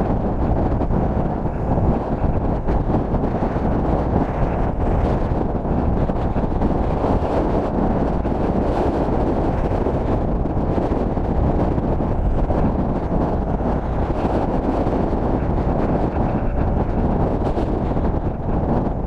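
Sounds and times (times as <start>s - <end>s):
skateboard wheels rolling on tarmac: 0.0s - 19.0s
wind buffeting microphone: 0.0s - 19.0s.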